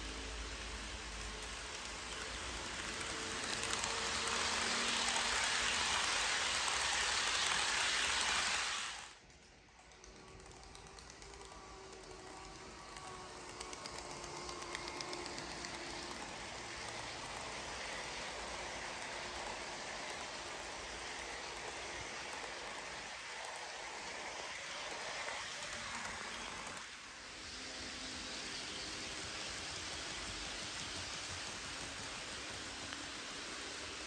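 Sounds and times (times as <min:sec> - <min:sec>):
faint motor whine: 0:00.0 - 0:34.0
model train wheels rolling: 0:00.0 - 0:34.0
wheels clicking over rail joints: 0:00.0 - 0:34.0.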